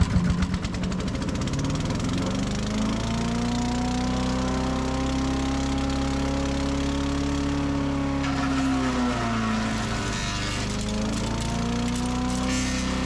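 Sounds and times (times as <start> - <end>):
small gas engine running: 0.0 - 13.0
wood chipper chipping branch: 0.0 - 13.0.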